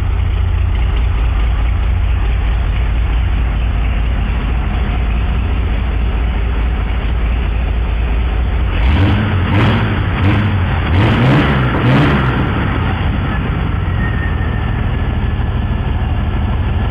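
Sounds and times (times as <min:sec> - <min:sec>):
car engine idling and revving: 0:00.0 - 0:16.9.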